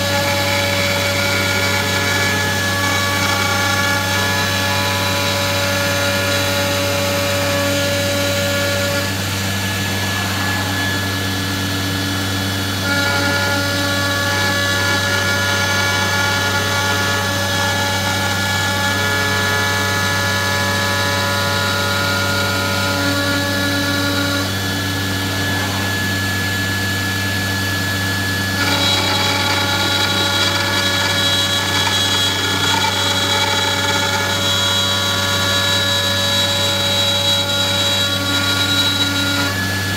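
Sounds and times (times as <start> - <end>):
low machine hum: 0.0 - 39.9
router spindle whine: 0.0 - 39.9.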